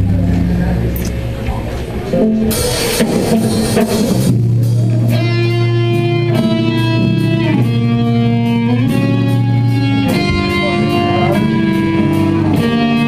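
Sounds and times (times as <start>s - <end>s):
steady bass note: 0.0s - 13.0s
sustained guitar chords: 0.0s - 13.0s
light drum beat: 2.3s - 13.0s.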